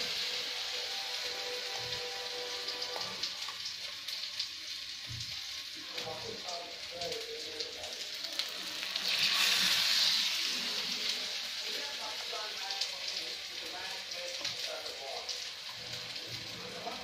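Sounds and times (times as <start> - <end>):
food sizzling on hot pan: 0.0 - 17.0.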